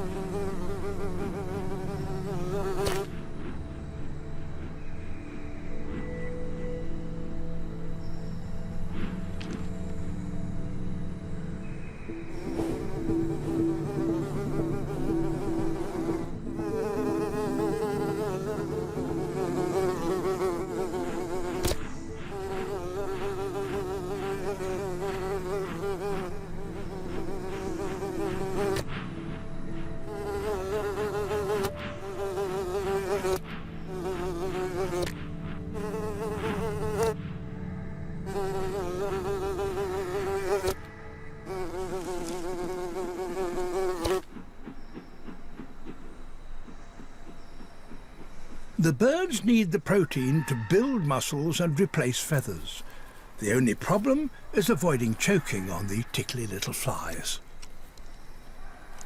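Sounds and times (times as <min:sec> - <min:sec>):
flies buzzing: 0:00.0 - 0:04.9, 0:08.1 - 0:37.4, 0:38.2 - 0:44.4, 0:48.6 - 0:58.3.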